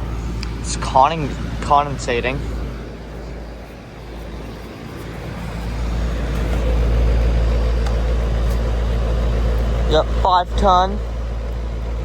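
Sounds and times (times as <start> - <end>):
condenser fan whoosh: 0.0 - 10.0
compressor hum: 0.0 - 12.0.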